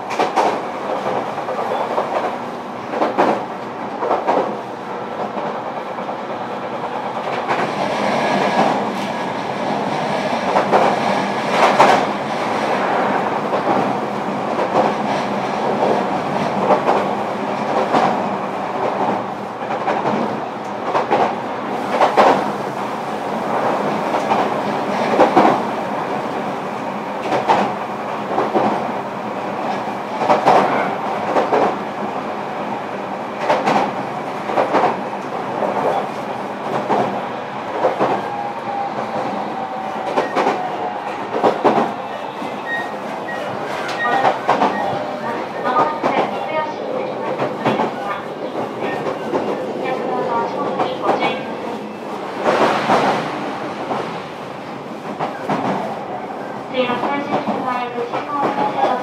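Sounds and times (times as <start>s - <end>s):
rail joints clicking: 0.0s - 32.1s, 33.3s - 59.0s
rumble of wheels on rail: 0.0s - 59.0s.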